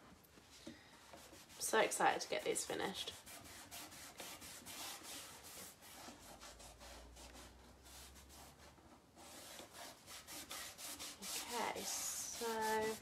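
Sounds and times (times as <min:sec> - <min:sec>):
cloth rag rubbing on wood: 0:01.0 - 0:13.0.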